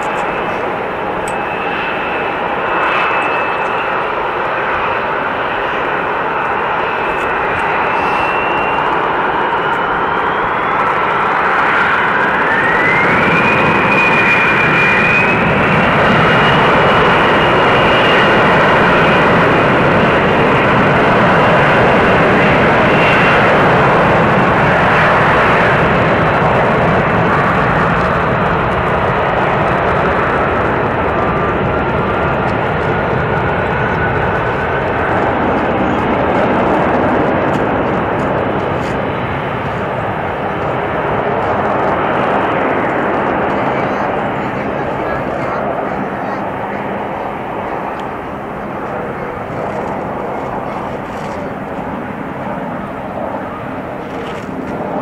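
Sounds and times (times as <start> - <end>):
jet airliner engines spooling up: 0.0 - 55.0.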